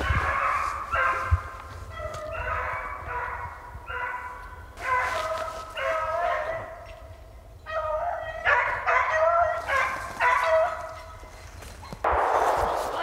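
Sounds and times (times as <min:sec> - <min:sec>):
hounds baying: 0:00.0 - 0:12.1.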